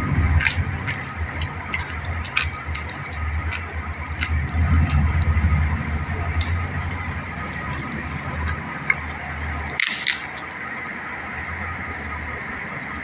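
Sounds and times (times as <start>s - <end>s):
steady low rumble: 0.0s - 12.6s
soft squishing of food by hand: 0.1s - 10.6s.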